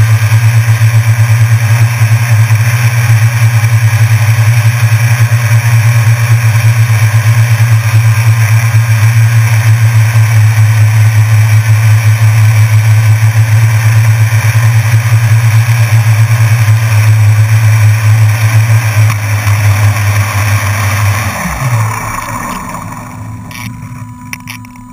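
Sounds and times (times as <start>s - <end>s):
drone propellers humming: 0.0s - 24.9s.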